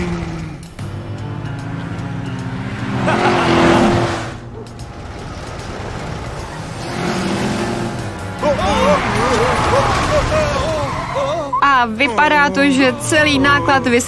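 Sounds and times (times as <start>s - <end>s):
cartoon truck engine: 0.0s - 14.0s.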